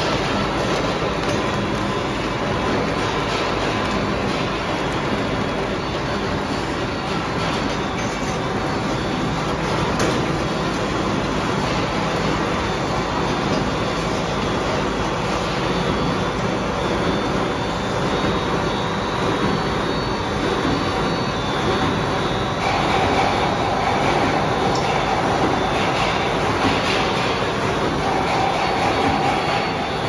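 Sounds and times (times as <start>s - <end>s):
factory machinery din: 0.0s - 30.0s
high machine whine: 0.0s - 30.0s.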